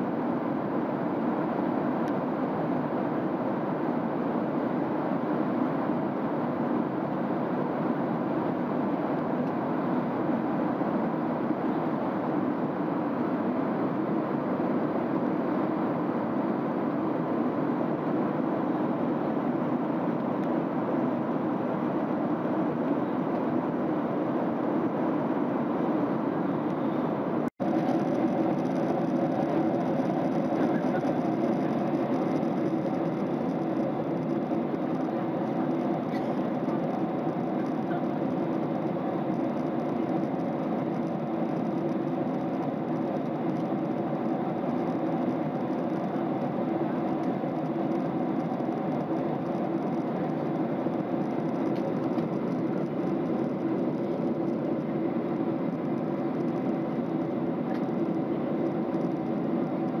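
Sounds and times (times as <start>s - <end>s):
air rushing along fuselage: 0.0s - 60.0s
jet engines humming: 0.0s - 60.0s.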